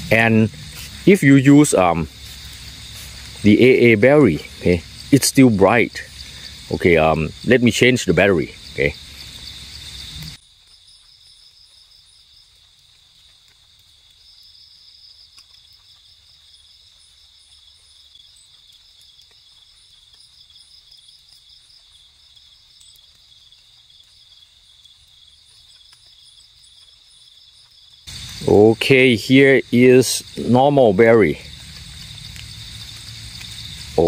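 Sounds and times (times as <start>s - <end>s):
fast pulsing insect chirp: 0.0s - 34.0s
insects trilling: 0.0s - 34.0s.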